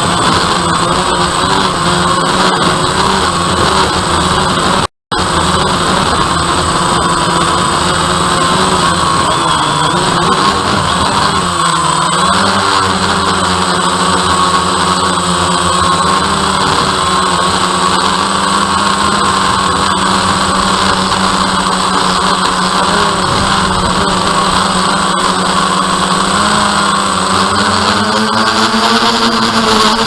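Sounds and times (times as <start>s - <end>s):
drone propellers humming: 0.0s - 30.0s.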